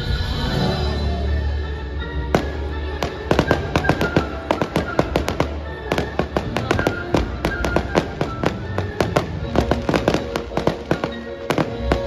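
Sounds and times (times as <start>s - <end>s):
music playing: 0.0s - 12.0s
fireworks bangs and crackles: 2.3s - 12.0s.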